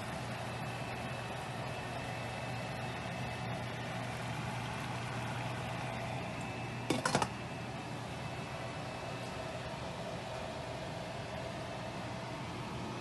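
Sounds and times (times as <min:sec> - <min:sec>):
low stovetop hum: 0:00.0 - 0:13.0.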